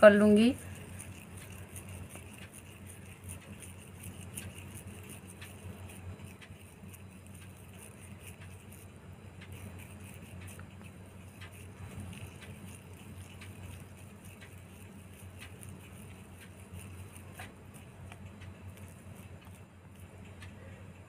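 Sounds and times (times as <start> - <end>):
soft clicks of dough rolling: 0.0 - 21.0
steady low hum: 0.0 - 21.0.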